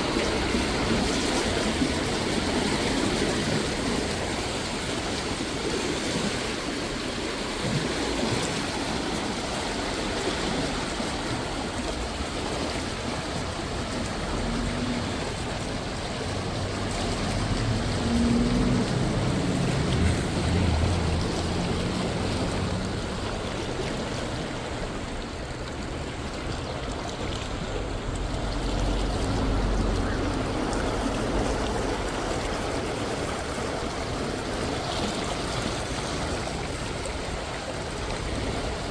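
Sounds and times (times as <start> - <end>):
boat engine droning: 0.0 - 38.9
water rushing under a bridge: 0.0 - 38.9.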